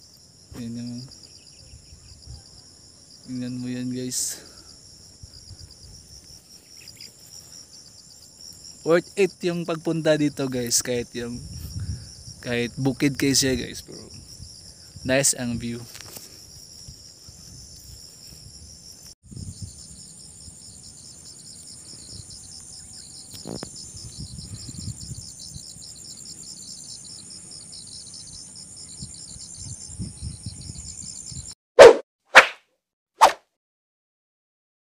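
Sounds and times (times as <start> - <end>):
insects chorus: 0.0 - 31.6.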